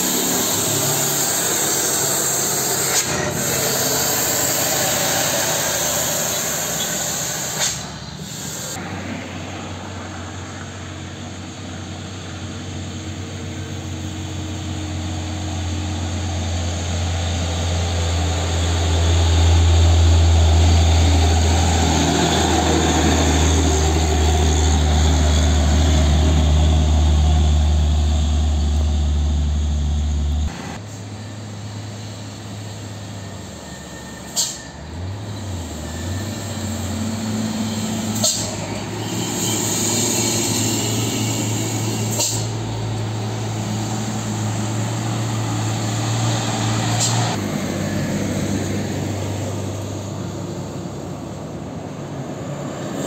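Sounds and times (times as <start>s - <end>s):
truck diesel engine droning: 0.0s - 53.0s.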